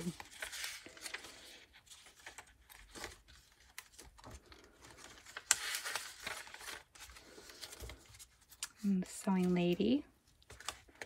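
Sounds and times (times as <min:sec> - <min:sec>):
paper pages clicking and tapping: 0:00.0 - 0:09.8, 0:10.4 - 0:11.0
page turning rustle: 0:00.0 - 0:11.0.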